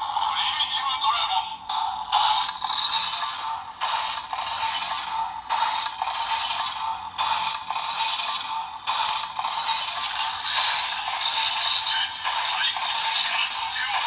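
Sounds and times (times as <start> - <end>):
tinny toy speaker music: 0.0 - 14.0.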